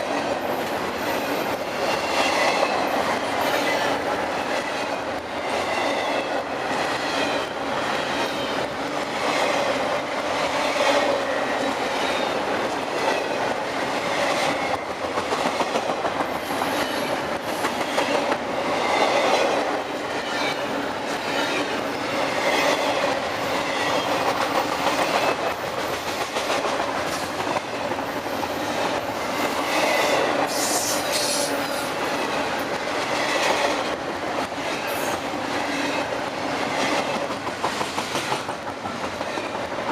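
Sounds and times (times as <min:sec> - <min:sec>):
train wheels clacking over rail joints: 0:07.0 - 0:39.9.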